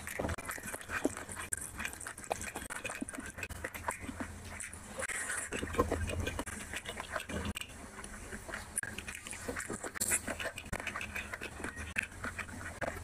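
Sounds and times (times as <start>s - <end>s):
person chewing with wet mouth sounds: 0.0s - 13.0s.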